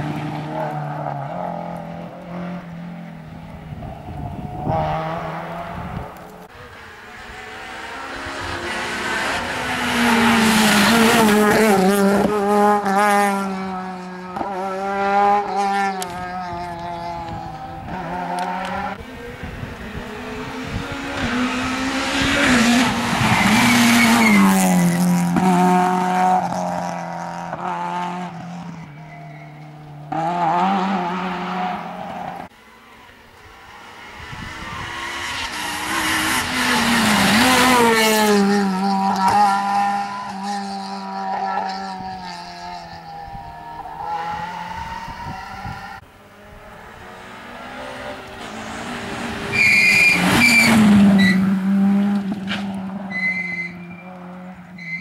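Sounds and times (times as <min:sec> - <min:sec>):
rally cars passing at full throttle: 0:00.0 - 0:55.0.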